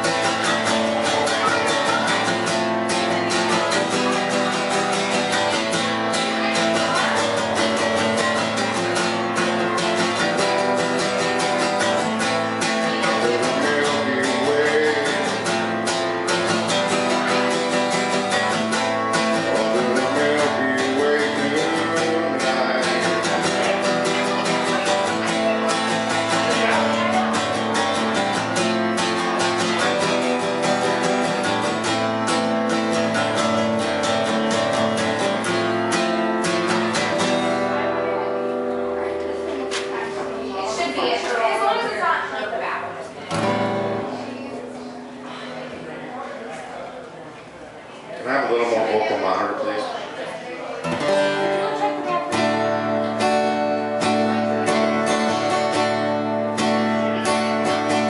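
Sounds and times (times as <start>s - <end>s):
acoustic guitar strumming chords: 0.0s - 46.3s, 50.7s - 58.0s.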